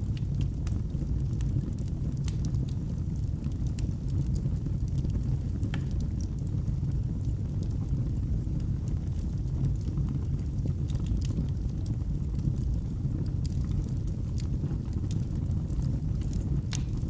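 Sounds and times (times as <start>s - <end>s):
fire crackles and pops: 0.0s - 17.0s
fire flames burning: 0.0s - 17.0s.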